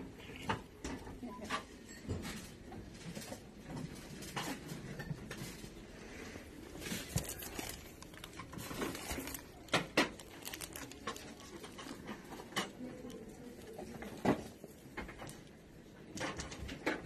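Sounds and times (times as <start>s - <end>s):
plastic wrapping rustling: 2.4s - 16.5s.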